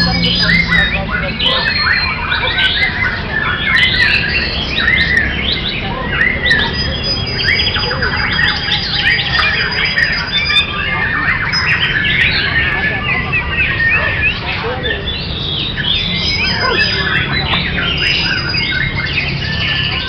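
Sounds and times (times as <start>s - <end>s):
birds singing: 0.0s - 20.0s.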